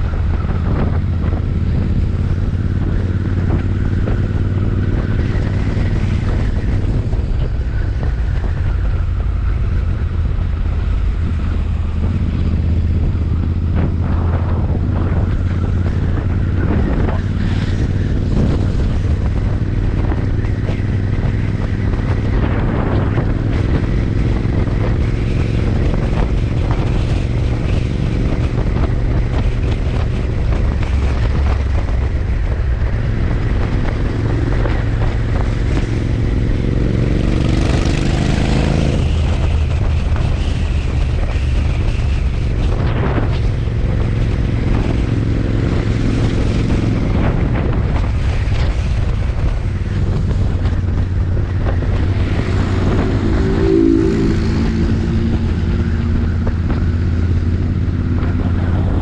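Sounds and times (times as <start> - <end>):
motorcycle engine rumbling: 0.0 - 59.0
wind on microphone: 0.0 - 59.0.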